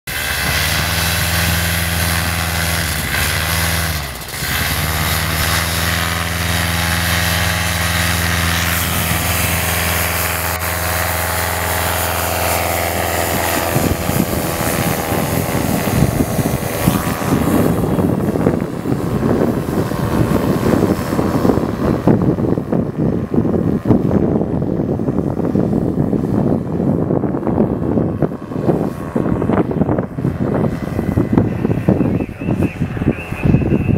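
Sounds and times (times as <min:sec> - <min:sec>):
paramotor engine and propeller: 0:00.1 - 0:33.9
wind noise on microphone: 0:00.1 - 0:33.9.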